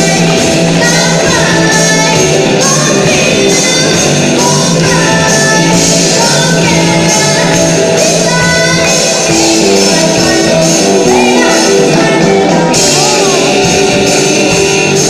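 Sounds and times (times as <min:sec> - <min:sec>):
bass guitar: 0:00.0 - 0:15.0
drums: 0:00.0 - 0:15.0
electric guitars: 0:00.0 - 0:15.0
organ: 0:00.0 - 0:15.0
woman singing into a microphone: 0:00.0 - 0:15.0.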